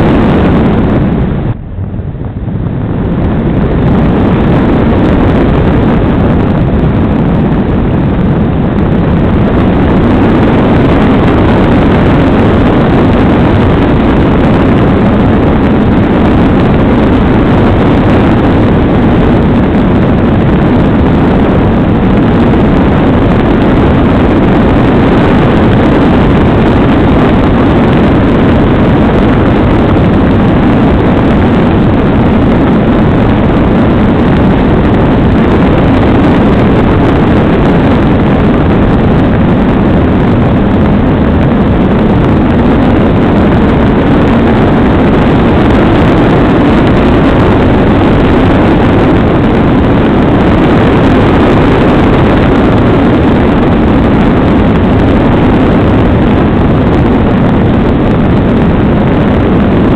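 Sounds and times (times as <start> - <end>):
wind noise on microphone: 0.0 - 59.9.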